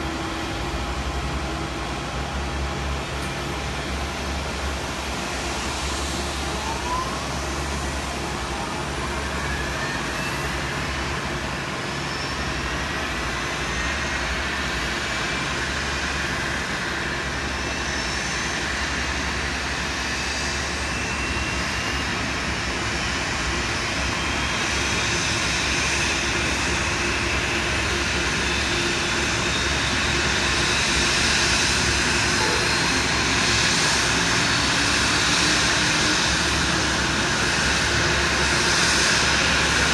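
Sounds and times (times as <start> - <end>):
jet engines spooling up: 0.0 - 39.9.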